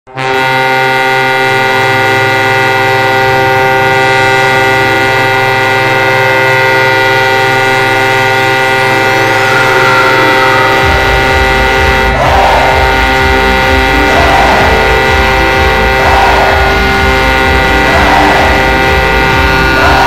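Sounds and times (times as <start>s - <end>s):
arena goal horn blaring: 0.0s - 20.0s.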